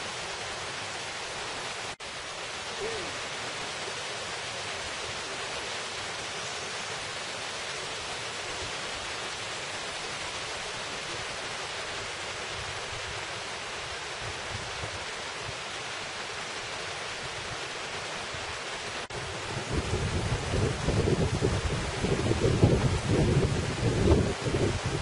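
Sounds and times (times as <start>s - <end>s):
stream rushing: 0.0s - 25.0s.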